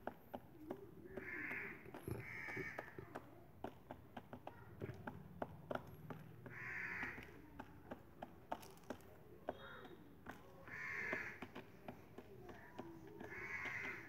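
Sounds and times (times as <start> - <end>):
pigeon pecking grains: 0.0 - 14.0.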